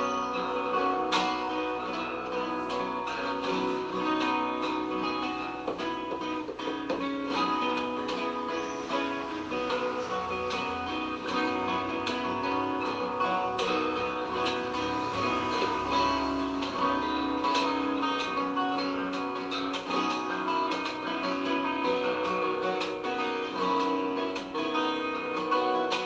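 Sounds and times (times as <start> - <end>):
plucked acoustic guitar: 0.0 - 26.0.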